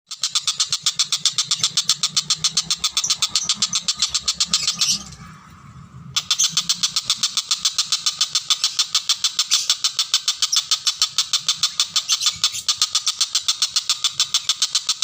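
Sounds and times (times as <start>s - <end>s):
kingfisher rattling chatter: 0.1s - 5.3s, 6.2s - 15.0s.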